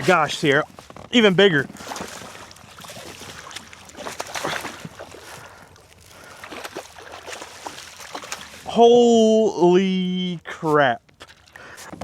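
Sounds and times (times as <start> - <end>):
water splashing around kayak: 0.0 - 9.8, 10.4 - 12.0.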